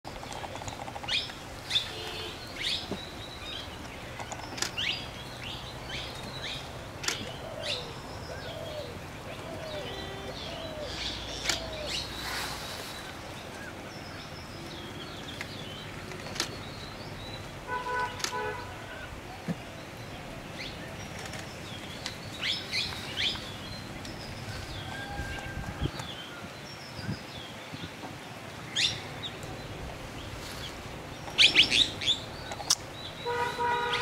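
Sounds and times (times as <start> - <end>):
low curved bird calls: 0.1 - 34.0
birds chirping sharply: 0.5 - 34.0.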